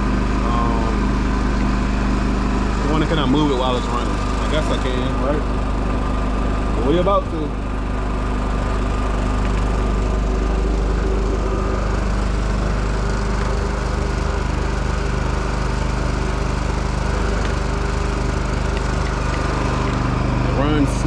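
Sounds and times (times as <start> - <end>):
generator running: 0.0 - 21.0.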